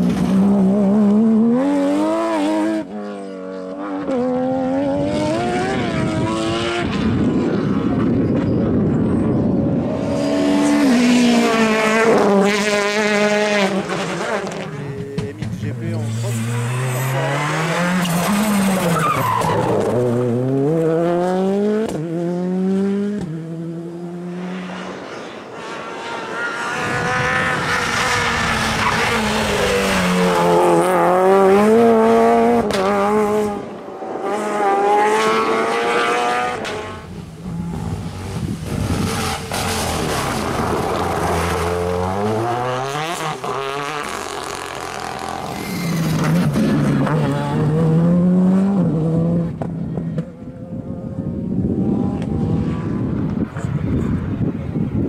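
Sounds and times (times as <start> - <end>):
rally car engines revving past: 0.0 - 55.0.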